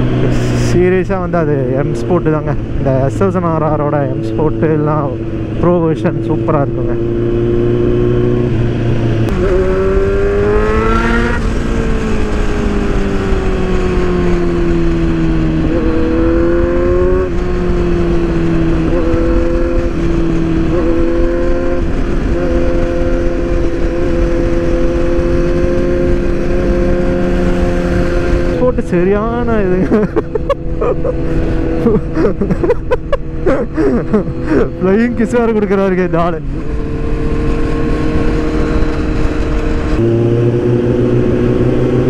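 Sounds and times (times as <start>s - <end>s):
motorcycle engine revving: 0.0s - 42.0s
wind noise: 6.4s - 42.0s.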